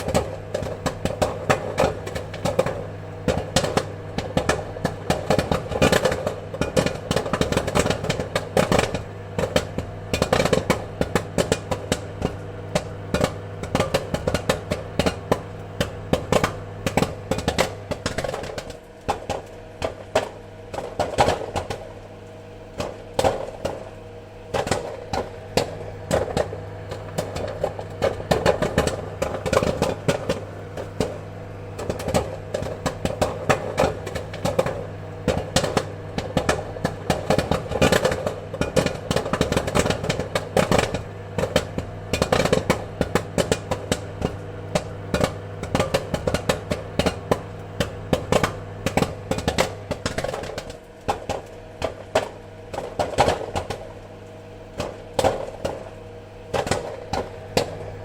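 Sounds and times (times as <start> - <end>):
popcorn popping: 0.0 - 58.0
steady low hum: 0.0 - 58.0.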